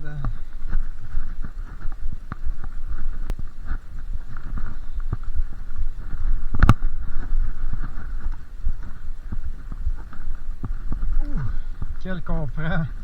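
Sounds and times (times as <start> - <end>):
bike rattling: 0.0 - 13.0
bike tyres rumbling on dirt: 0.0 - 13.0.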